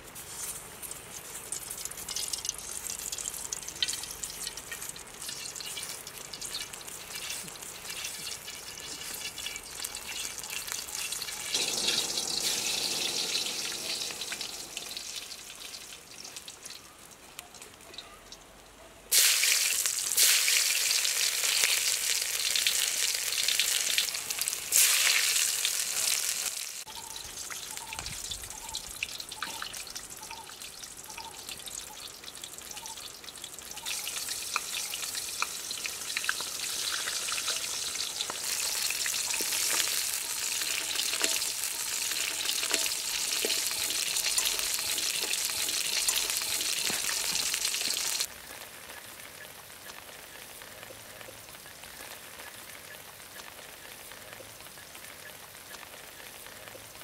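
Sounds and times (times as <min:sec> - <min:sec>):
loud sizzling hiss: 0:00.0 - 0:16.8, 0:19.1 - 0:31.1, 0:33.0 - 0:54.7
oil sizzling in a wok: 0:00.0 - 0:18.0, 0:18.6 - 0:57.0
wood fire crackling: 0:00.0 - 0:57.0.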